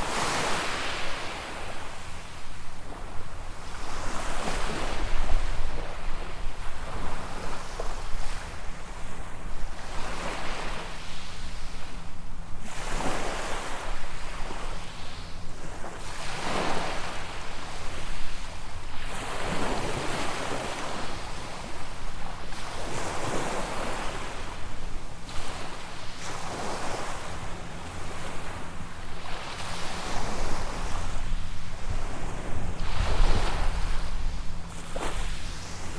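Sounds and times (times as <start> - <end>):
waves breaking on beach: 0.0 - 35.9
wind rumble on microphone: 0.0 - 35.9.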